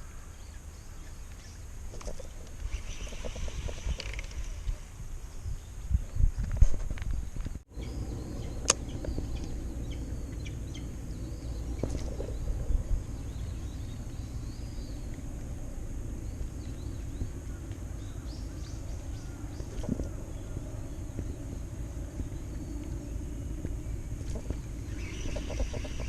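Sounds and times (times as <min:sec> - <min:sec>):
birds chirping: 0:00.0 - 0:26.0
low rumble of wind: 0:00.0 - 0:26.0.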